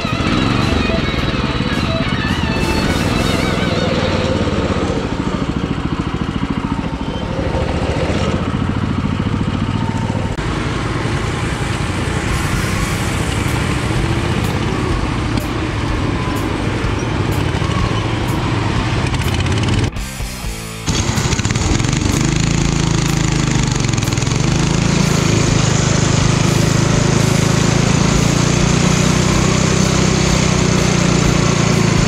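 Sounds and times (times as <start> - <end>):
riding lawn mower engine running: 0.0 - 32.0.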